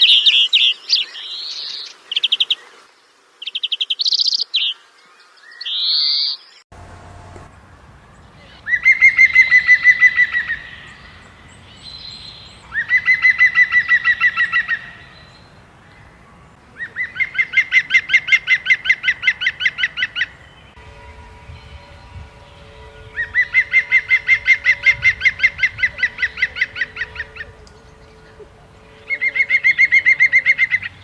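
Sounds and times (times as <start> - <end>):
songbird singing trills: 0.0 - 6.7, 8.1 - 20.8, 21.5 - 31.0.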